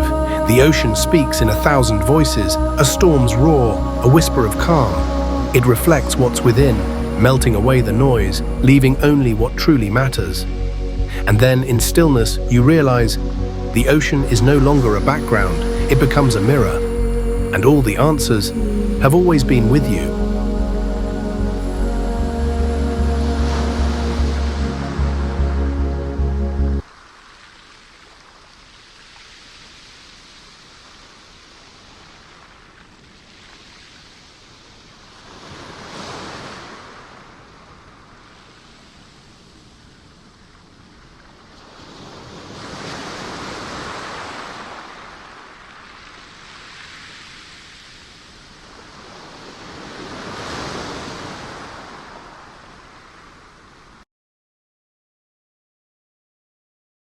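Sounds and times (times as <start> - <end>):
surf wash: 0.0 - 26.2, 26.8 - 54.0
ocean waves breaking: 0.0 - 54.0.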